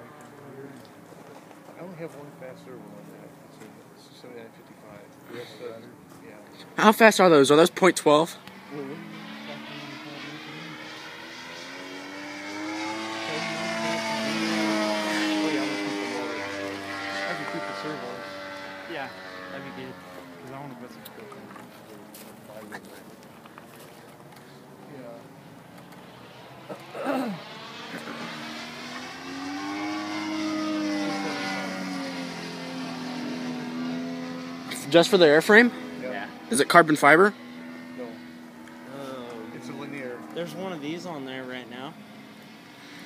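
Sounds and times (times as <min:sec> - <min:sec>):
model plane engine running: 0:07.7 - 0:43.0.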